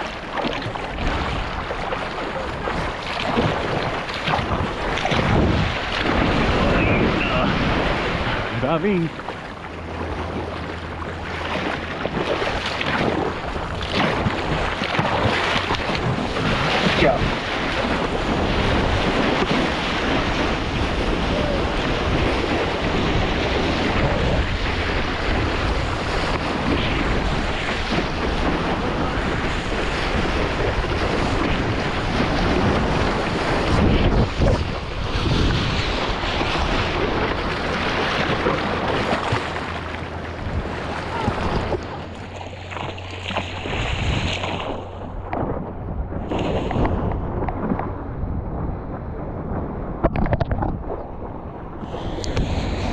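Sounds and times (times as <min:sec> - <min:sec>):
ocean surf splashing: 0:00.0 - 0:52.9
wind buffeting microphone: 0:00.0 - 0:52.9.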